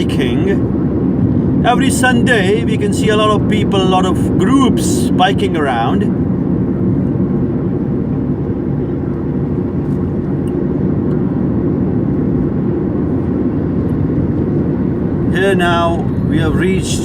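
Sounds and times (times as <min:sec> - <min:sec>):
car road and engine drone: 0:00.0 - 0:17.0.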